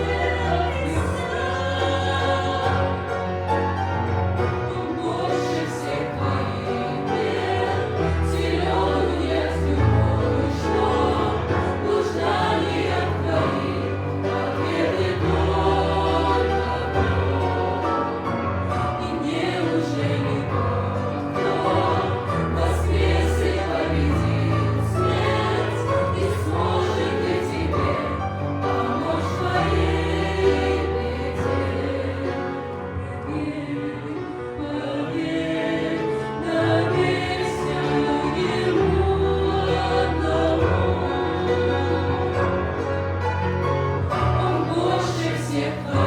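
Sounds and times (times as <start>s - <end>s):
choir singing a hymn: 0.0s - 46.0s.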